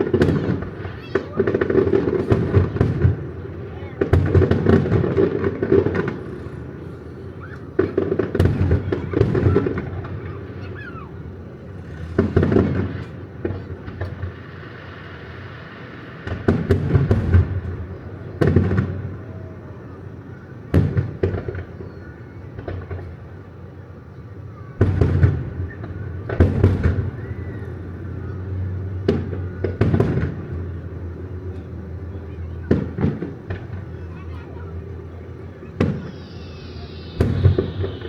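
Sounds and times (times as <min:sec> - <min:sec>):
fireworks booming: 0:00.0 - 0:23.4, 0:24.8 - 0:38.0.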